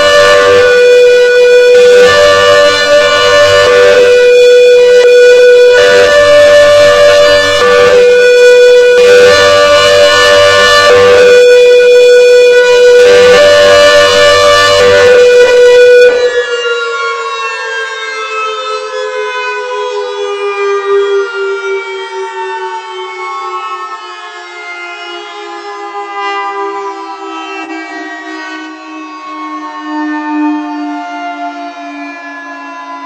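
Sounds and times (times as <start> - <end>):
hi-lo siren: 0.0 - 33.0
siren winding down: 0.0 - 33.0.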